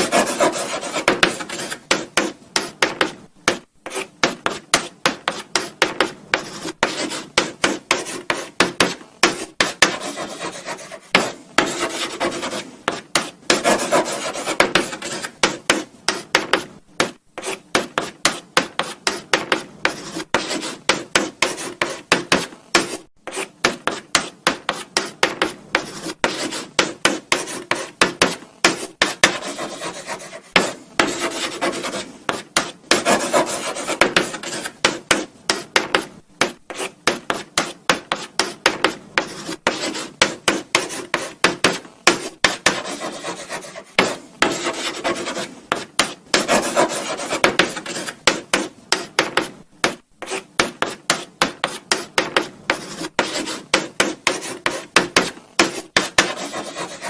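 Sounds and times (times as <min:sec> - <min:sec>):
chalk scratching on blackboard: 0:00.0 - 0:57.0
chalk tapping on board: 0:00.0 - 0:57.0.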